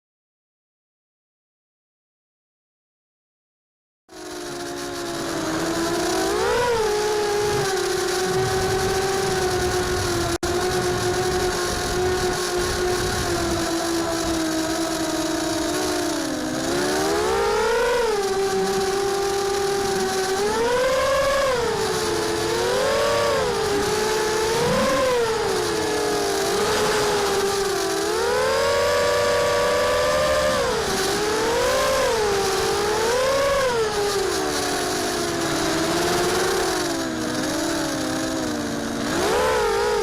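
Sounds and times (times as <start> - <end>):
quadcopter motors whining: 4.1 - 40.0.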